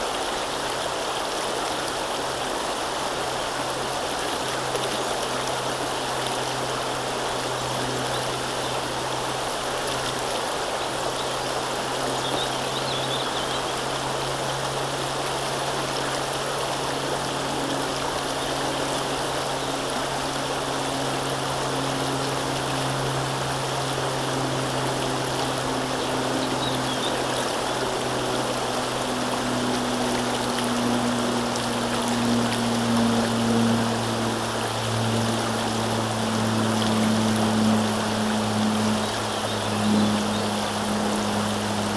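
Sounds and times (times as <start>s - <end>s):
river water rushing: 0.0s - 41.9s
low engine hum: 3.2s - 41.9s.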